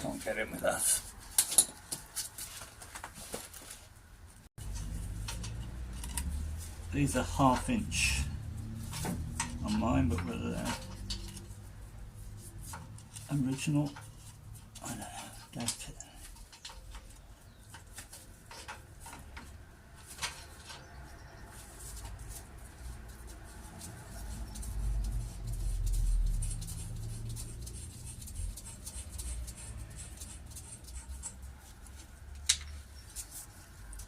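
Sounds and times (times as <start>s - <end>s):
spanner clicking and scraping metal: 4.6s - 21.0s, 21.9s - 34.0s.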